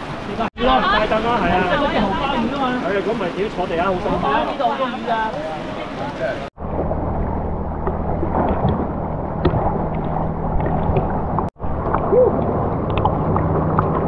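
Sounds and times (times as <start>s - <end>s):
muffled sloshing of sea water: 0.0s - 14.0s.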